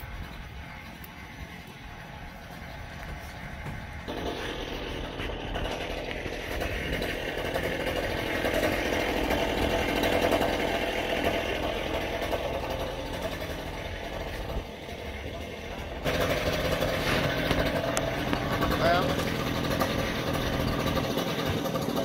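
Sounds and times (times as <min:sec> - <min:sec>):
machinery engine running: 0:00.0 - 0:22.0
harsh demolition clatter: 0:03.6 - 0:22.0.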